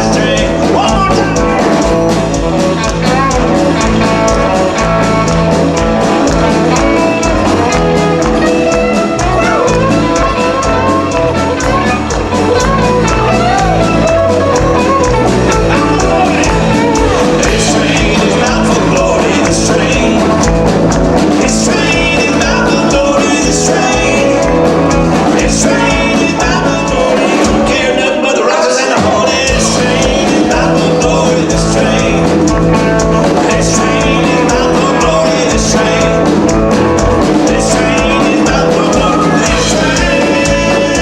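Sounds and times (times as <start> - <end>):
guitar: 0.0 - 41.0
live band playing gospel song: 0.0 - 41.0
person singing: 0.0 - 41.0.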